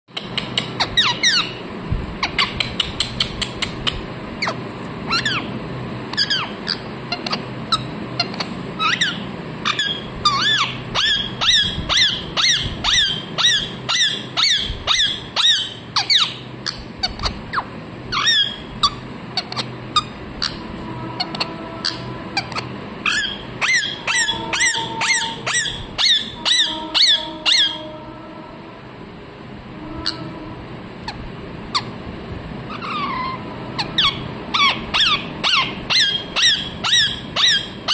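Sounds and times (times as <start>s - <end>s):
parakeet chirping calls: 0.2s - 1.6s, 2.2s - 28.0s, 30.0s - 30.3s, 31.0s - 31.9s, 32.7s - 37.9s.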